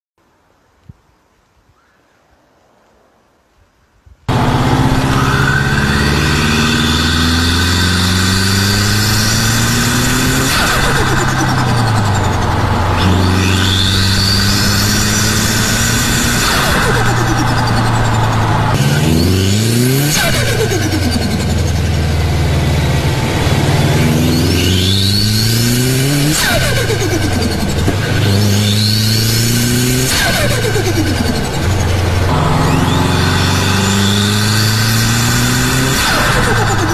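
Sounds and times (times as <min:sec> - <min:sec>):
car engine running steadily: 0:04.3 - 0:36.9
turbo flutter and whine: 0:04.3 - 0:36.9.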